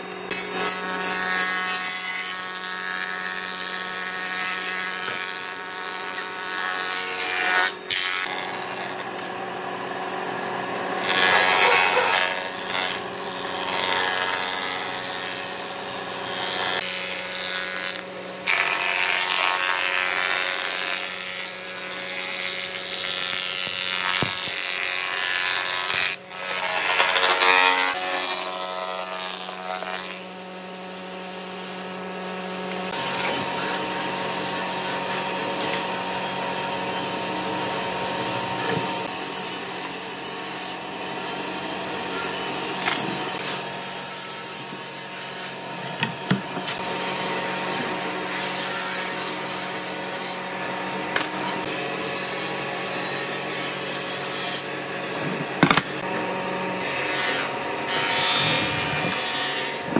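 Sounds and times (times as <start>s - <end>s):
thickness planer cutting wood: 0.0s - 59.9s.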